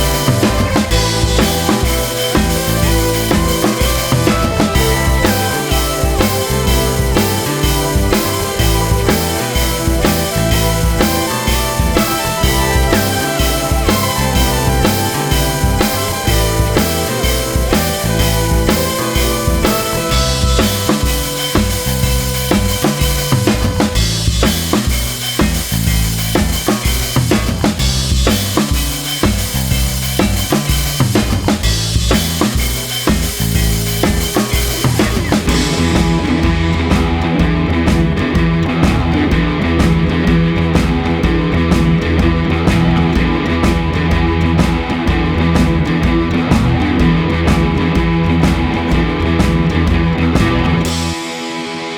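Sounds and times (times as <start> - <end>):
music with drum kit and bass: 0.0 - 51.9.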